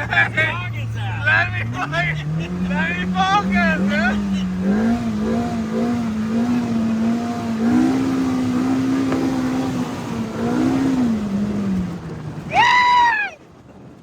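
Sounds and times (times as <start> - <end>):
utility vehicle engine running: 0.0 - 12.8.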